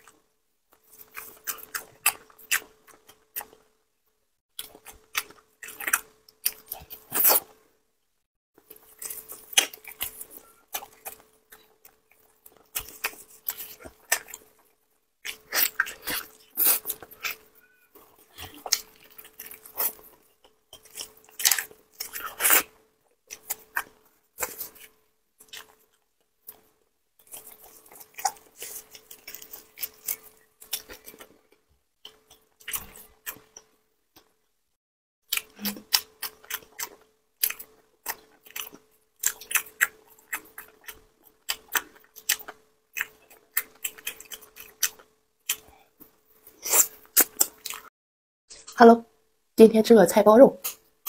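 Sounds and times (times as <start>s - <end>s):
close chewing and biting: 0.0s - 3.7s, 4.6s - 7.7s, 8.6s - 34.4s, 35.3s - 47.9s.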